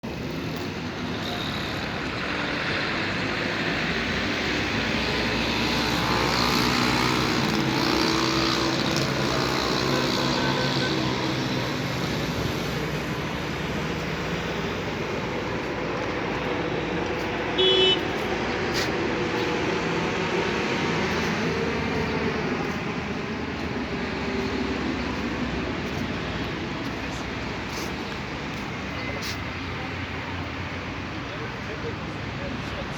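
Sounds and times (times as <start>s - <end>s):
road traffic noise: 0.0s - 32.9s.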